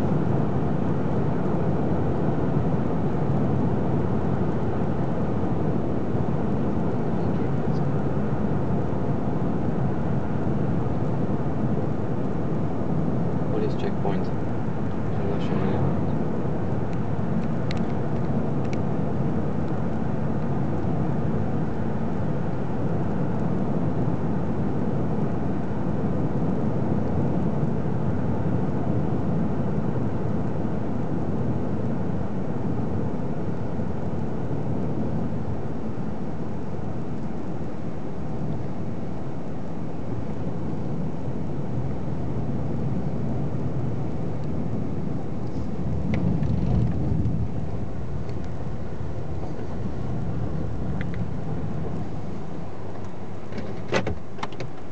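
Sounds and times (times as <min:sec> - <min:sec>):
car interior road drone: 0:00.0 - 0:54.9.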